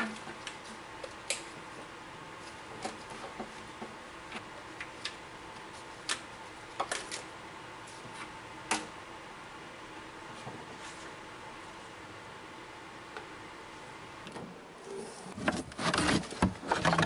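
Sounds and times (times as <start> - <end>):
faint hum: 0.0 - 17.0
steady background hiss: 0.0 - 17.0.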